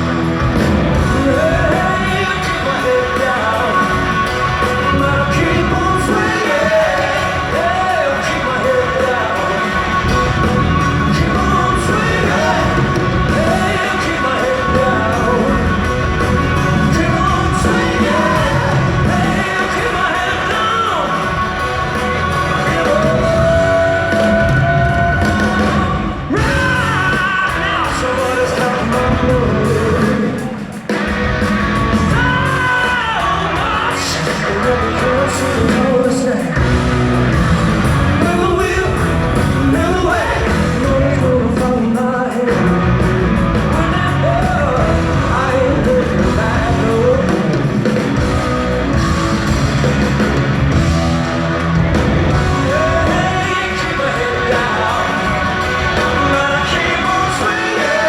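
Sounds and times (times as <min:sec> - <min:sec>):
live rock band: 0:00.0 - 0:58.0
man singing: 0:00.8 - 0:31.0, 0:31.9 - 0:37.0, 0:38.0 - 0:49.2, 0:52.3 - 0:58.0.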